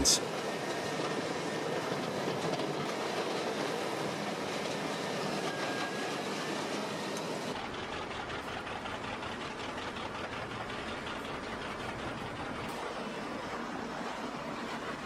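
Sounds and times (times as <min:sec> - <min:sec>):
heavy engine running: 0:00.0 - 0:15.0.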